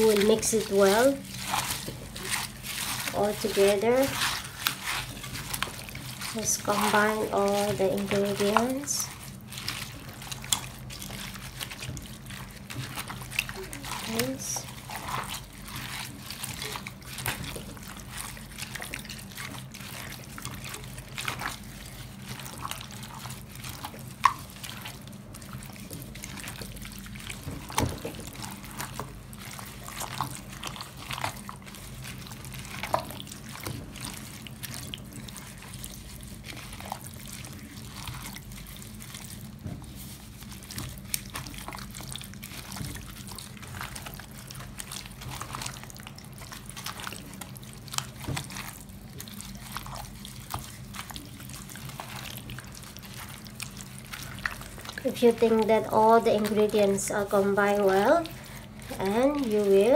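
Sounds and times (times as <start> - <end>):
hands squelching meat in marinade: 0.0 - 59.9
low steady hum: 0.0 - 59.9.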